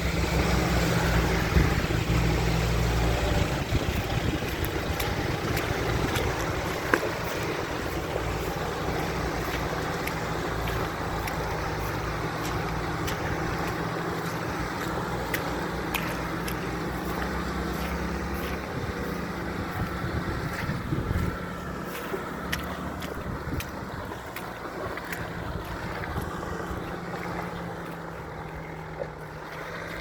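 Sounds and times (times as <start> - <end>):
car engine running: 0.0 - 30.0
tyre and road noise: 0.0 - 30.0.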